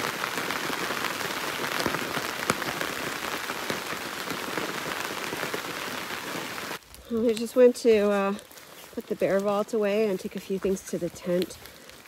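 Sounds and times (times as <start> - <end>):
rain on a tarp: 0.0 - 12.0.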